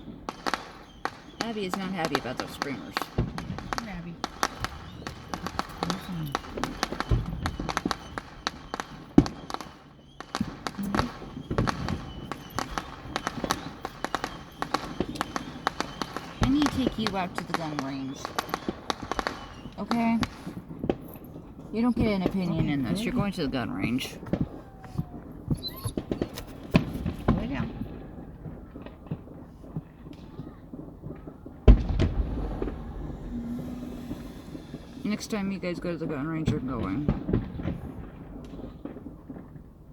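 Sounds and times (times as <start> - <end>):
fireworks popping and cracking: 0.0 - 39.9.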